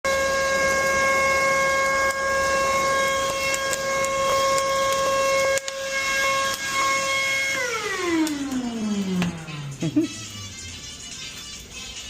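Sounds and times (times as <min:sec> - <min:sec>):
vacuum cleaner motor running: 0:00.1 - 0:09.8.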